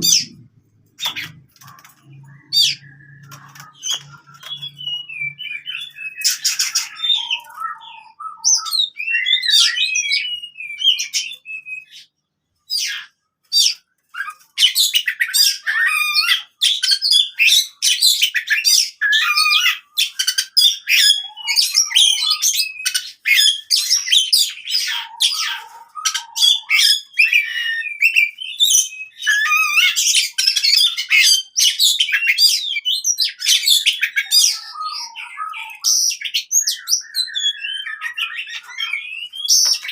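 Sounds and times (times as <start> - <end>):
bird singing rapid chirps: 0.0 - 12.1, 12.7 - 39.9.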